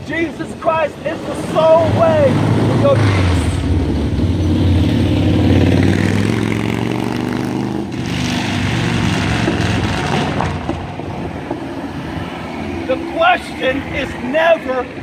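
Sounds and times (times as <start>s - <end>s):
vehicle engine humming: 0.0s - 15.0s
vehicle passing: 0.9s - 15.0s.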